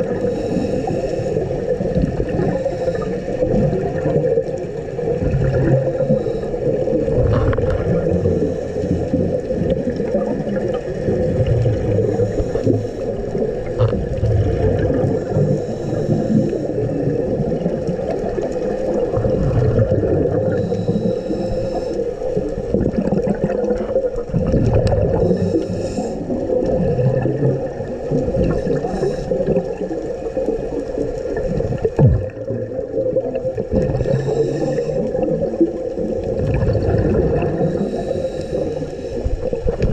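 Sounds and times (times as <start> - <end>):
scuba regulator bubbles hissing: 0.0 - 39.9
underwater low rumble and hum: 0.0 - 39.9.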